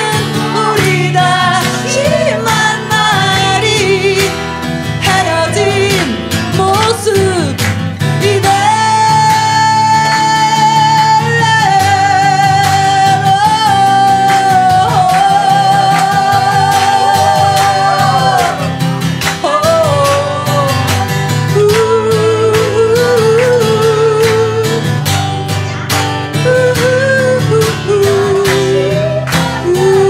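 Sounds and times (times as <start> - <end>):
woman singing with vibrato: 0.0 - 25.0, 26.3 - 30.0
strummed acoustic guitar: 0.0 - 30.0.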